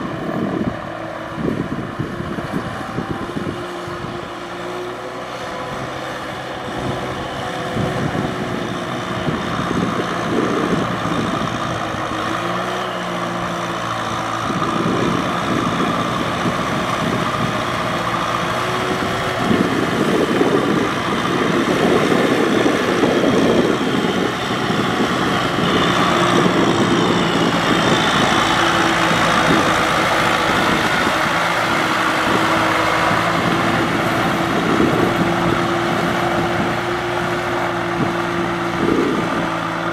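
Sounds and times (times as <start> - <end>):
rushing of churned mud and water: 0.0 - 39.9
tractor diesel engine under load: 0.0 - 39.9.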